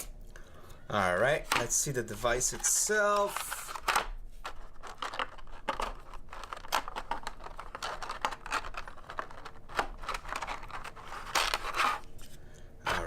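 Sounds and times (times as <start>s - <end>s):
packaging rustling: 2.3s - 13.0s.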